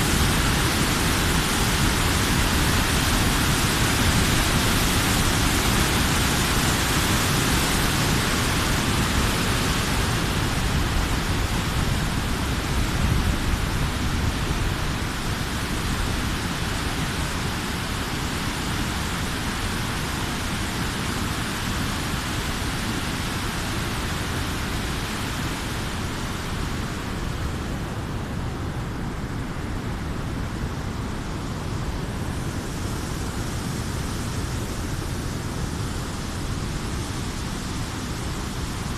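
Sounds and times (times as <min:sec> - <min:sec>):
white water rushing over weir: 0:00.0 - 0:38.9.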